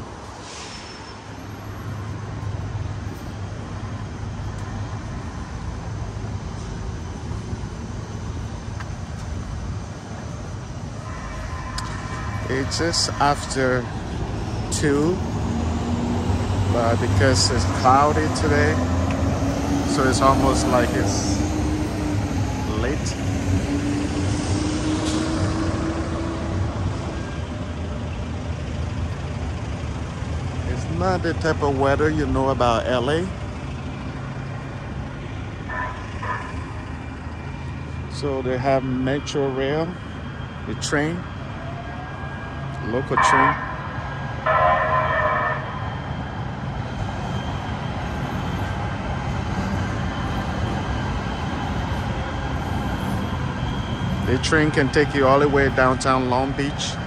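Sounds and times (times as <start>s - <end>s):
rumble of passing vehicles: 0.0s - 57.0s.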